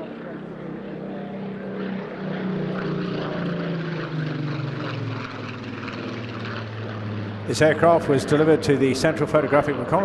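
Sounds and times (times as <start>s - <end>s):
propeller aircraft engine flying past: 0.0s - 10.0s.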